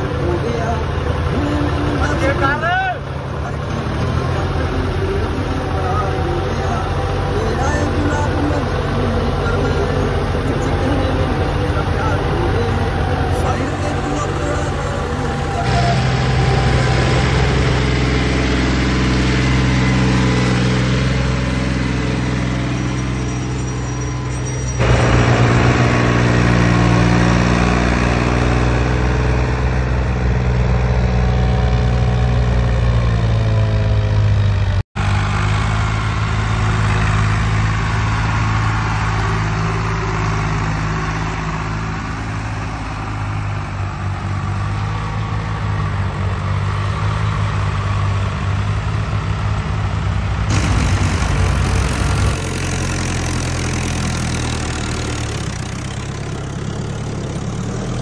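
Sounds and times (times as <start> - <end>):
diesel tractor engines running: 0.0 - 58.0.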